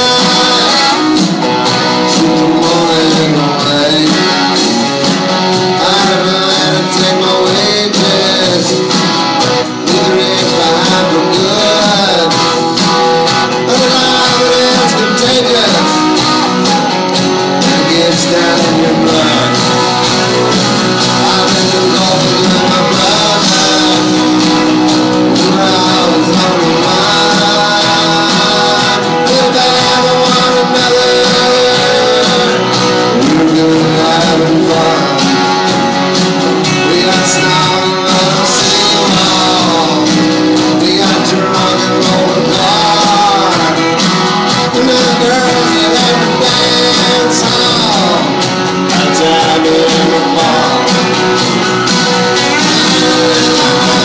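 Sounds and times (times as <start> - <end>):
drums: 0.0 - 54.0
electric and acoustic guitars: 0.0 - 54.0
keyboards: 0.0 - 54.0.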